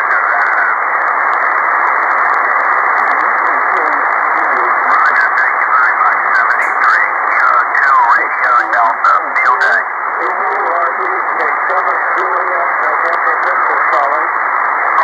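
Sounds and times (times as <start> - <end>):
faint garbled radio voices: 0.0 - 2.4, 3.0 - 15.0
radio band noise hiss: 0.0 - 15.0.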